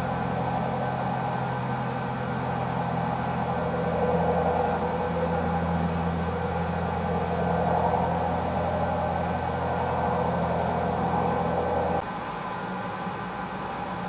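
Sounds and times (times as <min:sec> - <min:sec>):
low drone: 0:00.0 - 0:12.0
mechanical hum with held tones: 0:00.0 - 0:14.0.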